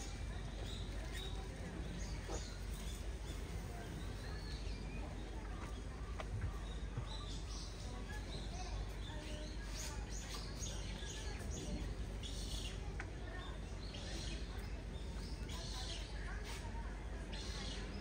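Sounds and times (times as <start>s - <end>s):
low background murmur: 0.0s - 18.0s
small birds chirping: 0.0s - 18.0s.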